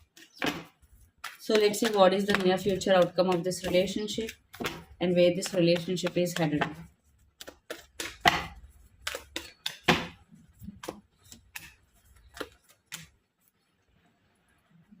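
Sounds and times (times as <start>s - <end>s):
cards shuffling: 0.0s - 13.2s.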